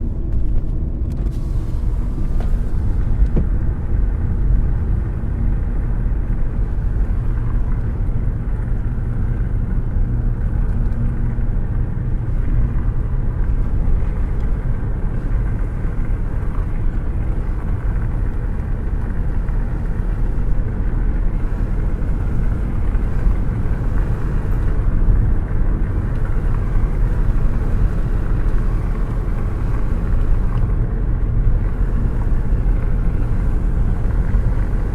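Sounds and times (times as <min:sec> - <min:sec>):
car driving low rumble: 0:00.0 - 0:34.9.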